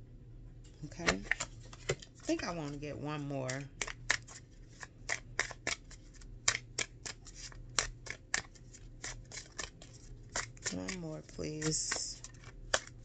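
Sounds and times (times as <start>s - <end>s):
cards being shuffled: 1.0s - 2.8s, 3.4s - 13.0s.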